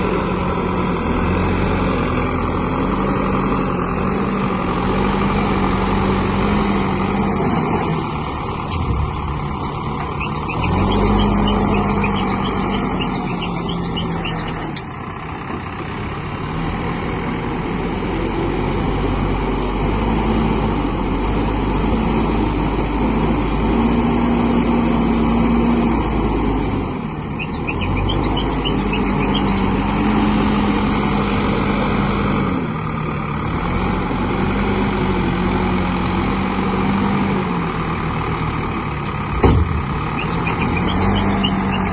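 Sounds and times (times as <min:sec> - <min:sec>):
diesel engine revving: 0:00.0 - 0:41.9.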